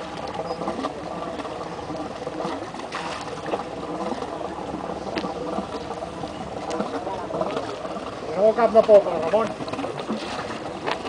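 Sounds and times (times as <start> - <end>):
water splashing against boat: 0.0 - 11.0.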